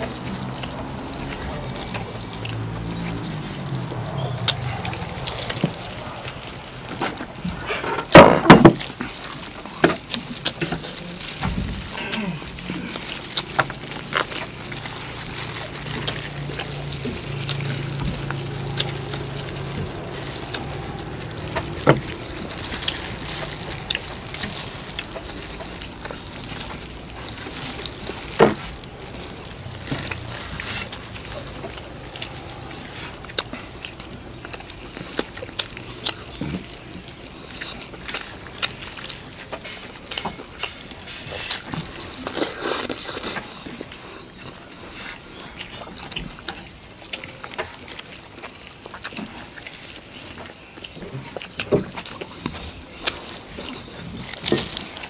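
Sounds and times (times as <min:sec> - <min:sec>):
clicks and knocks of bones and utensils: 0:00.0 - 0:55.0
people chewing and tearing meat: 0:00.0 - 0:55.0.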